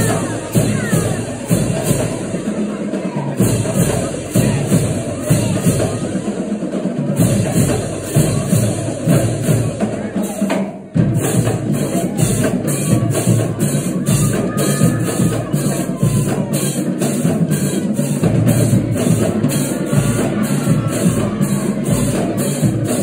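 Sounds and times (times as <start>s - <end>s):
drumline playing: 0.0s - 23.0s.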